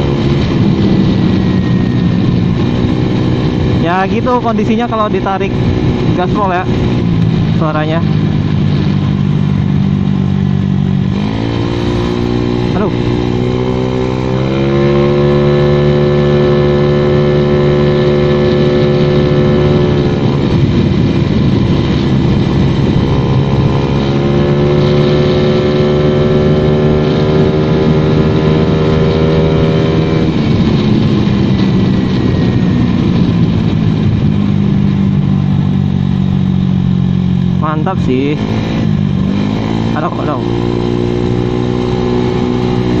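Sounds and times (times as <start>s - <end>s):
scooter engine revving: 0.0s - 43.0s.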